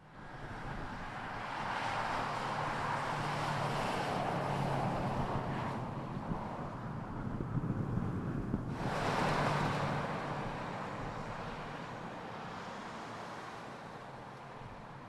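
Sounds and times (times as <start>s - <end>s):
vehicle low rumble: 0.1s - 15.0s.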